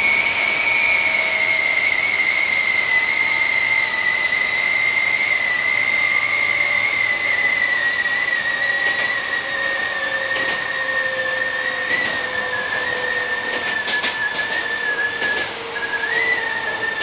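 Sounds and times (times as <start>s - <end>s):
train motor whine: 0.0s - 17.0s
train running noise: 0.0s - 17.0s.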